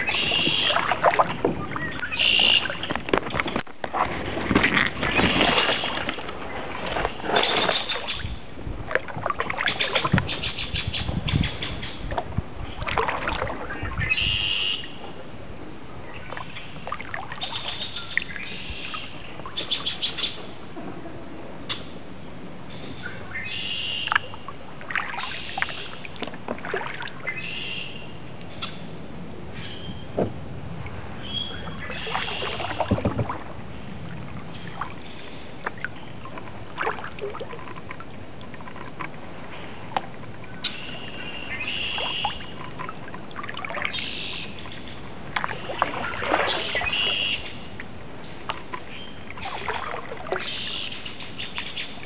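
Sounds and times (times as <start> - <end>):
paddle strokes splashing: 0.0 - 15.2, 16.0 - 21.1, 22.9 - 28.9, 29.5 - 52.0.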